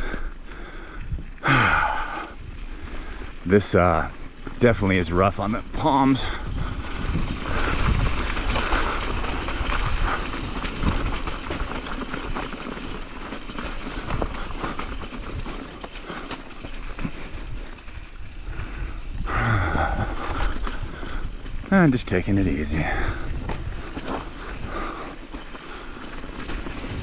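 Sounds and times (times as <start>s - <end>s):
tyres crunching over gravel: 0.0s - 27.0s.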